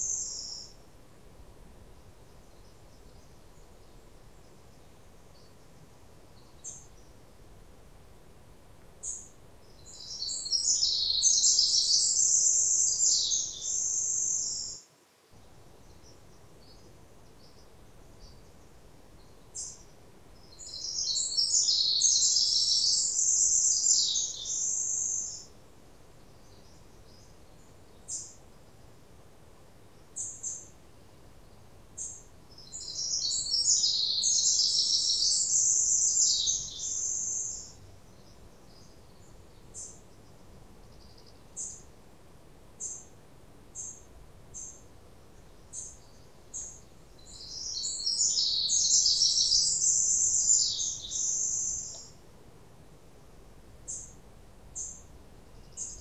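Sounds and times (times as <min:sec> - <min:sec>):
songbird singing high-pitched song: 0:00.0 - 0:00.8, 0:02.0 - 0:07.3, 0:09.0 - 0:25.6, 0:26.2 - 0:28.9, 0:30.0 - 0:41.9, 0:42.8 - 0:43.2, 0:43.8 - 0:52.2, 0:53.8 - 0:54.2, 0:54.8 - 0:56.0.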